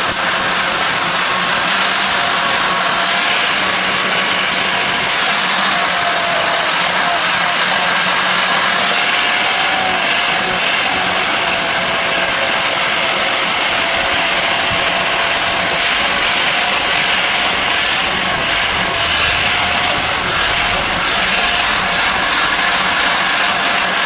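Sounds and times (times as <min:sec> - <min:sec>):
power grinder grinding steel: 0:00.0 - 0:24.0.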